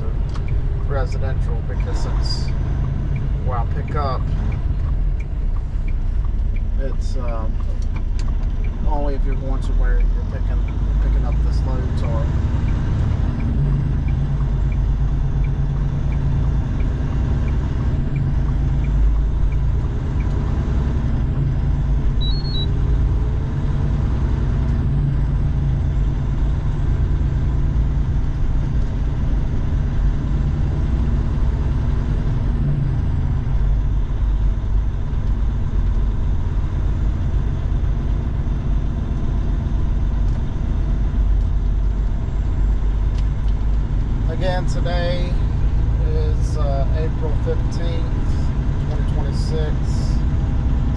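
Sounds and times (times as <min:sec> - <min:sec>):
truck engine rumble in cab: 0:00.0 - 0:50.9.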